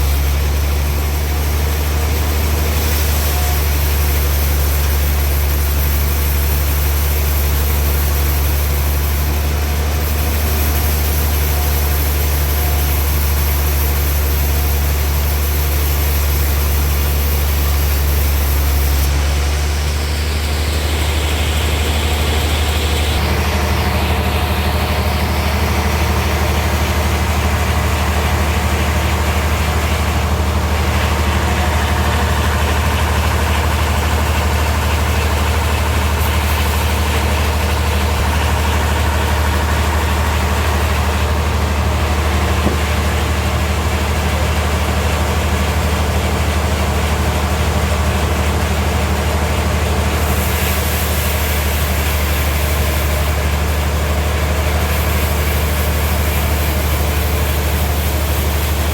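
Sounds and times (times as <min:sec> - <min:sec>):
sawmill machinery droning: 0:00.0 - 0:58.9.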